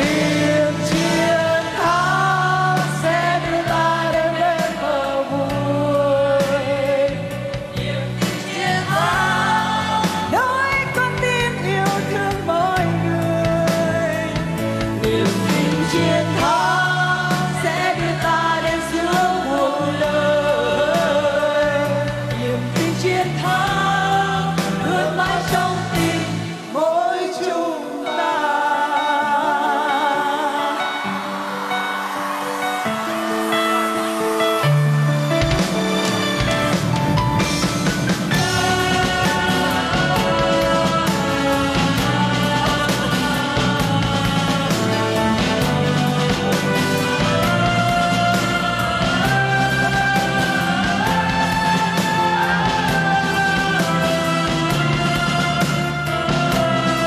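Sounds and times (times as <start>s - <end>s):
woman singing into a microphone: 0.0s - 31.4s, 38.5s - 55.6s
live band backing: 0.0s - 57.0s.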